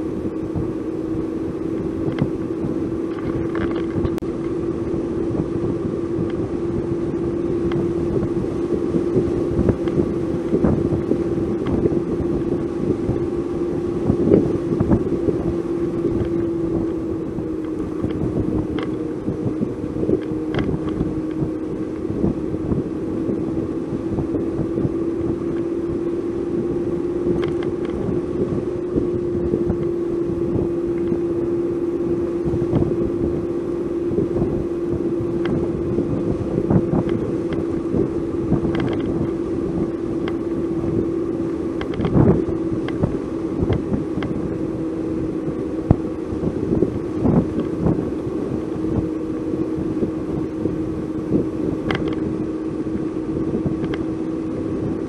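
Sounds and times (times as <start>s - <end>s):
vehicle engine running: 0.0s - 55.0s
wind noise on microphone: 0.0s - 55.0s.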